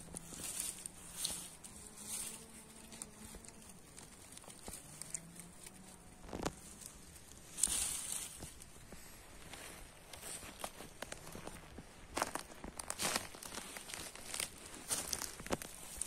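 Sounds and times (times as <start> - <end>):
twig crackles and snap: 0.0 - 8.8, 10.1 - 16.0
hand rustling through needles: 0.0 - 16.0.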